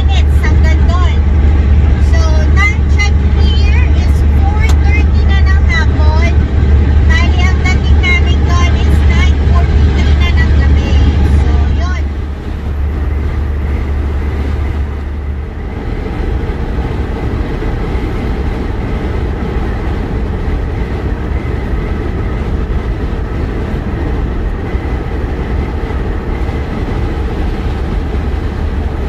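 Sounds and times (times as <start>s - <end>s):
diesel engine rumble: 0.0s - 29.0s
tyres on the road: 0.0s - 29.0s.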